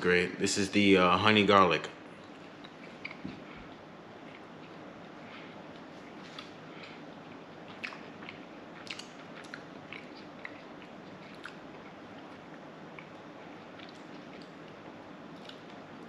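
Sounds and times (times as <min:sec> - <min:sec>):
person chewing jerky: 0:02.2 - 0:04.9, 0:05.8 - 0:16.0.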